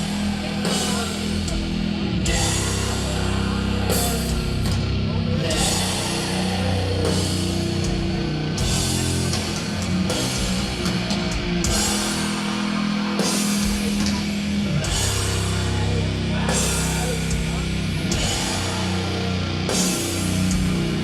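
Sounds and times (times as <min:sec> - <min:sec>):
doom metal band playing: 0:00.0 - 0:21.0.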